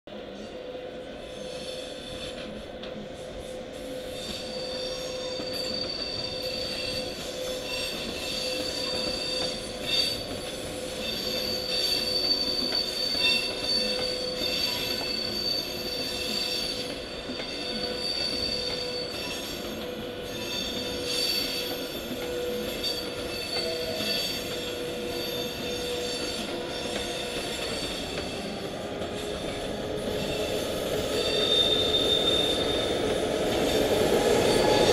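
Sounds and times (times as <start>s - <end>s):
train wheel squeal: 0.2s - 34.9s.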